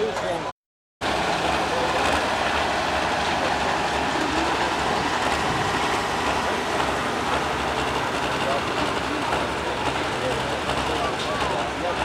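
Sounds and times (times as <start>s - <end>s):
tractor engine running loud: 1.0s - 12.0s.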